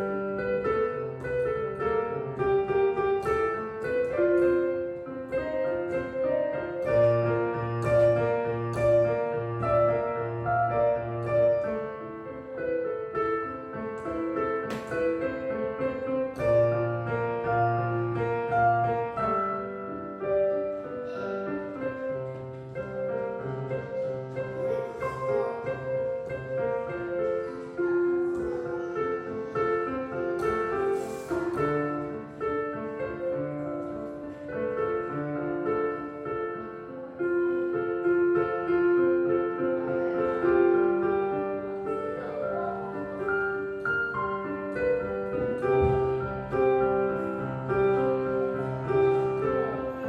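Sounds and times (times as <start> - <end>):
piano melody over chords: 0.0 - 50.0.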